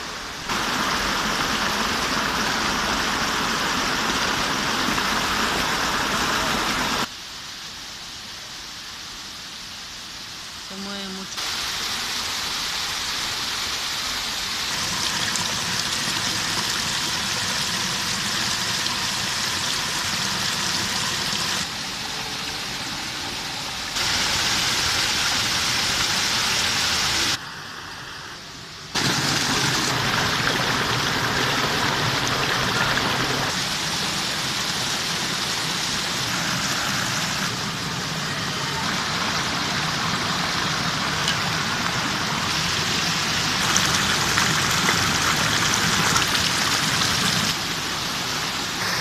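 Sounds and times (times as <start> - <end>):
water rushing over boulders: 0.0 - 7.1, 10.7 - 27.4, 28.9 - 49.0.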